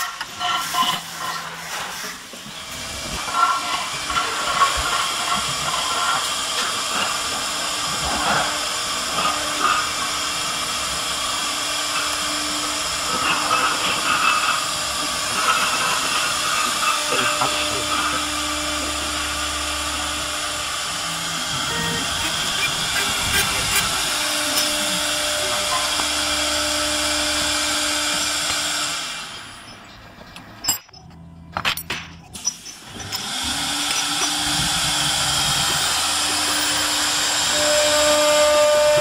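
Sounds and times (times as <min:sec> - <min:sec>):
router spindle hissing: 0:00.6 - 0:29.4, 0:33.2 - 0:39.0.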